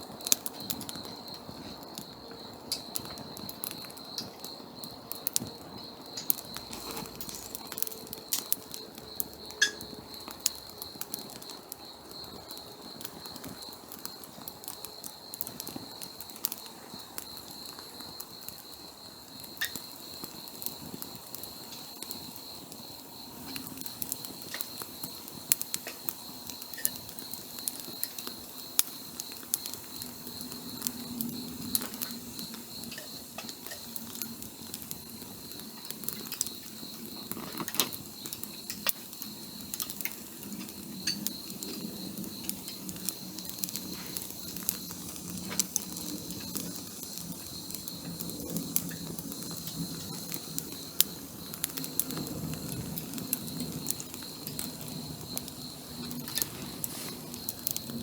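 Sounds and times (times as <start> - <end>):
campfire crackling and popping: 0.0 - 58.0
insect trill: 0.0 - 58.0.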